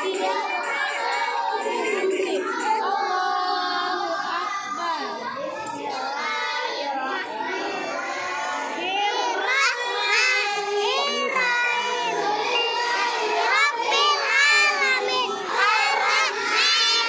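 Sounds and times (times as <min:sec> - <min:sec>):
children chanting in unison: 0:00.0 - 0:17.0.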